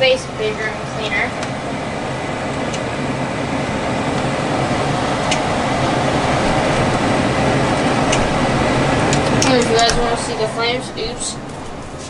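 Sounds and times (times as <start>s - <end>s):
gas furnace running: 0.0s - 12.0s.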